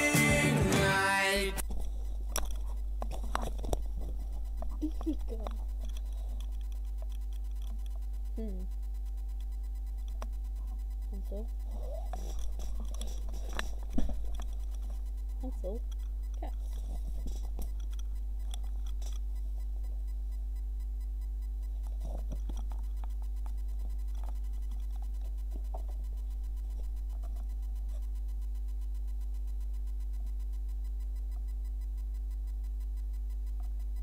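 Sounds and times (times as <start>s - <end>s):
faint steady tones: 0.0s - 34.0s
low electrical hum: 0.0s - 34.0s.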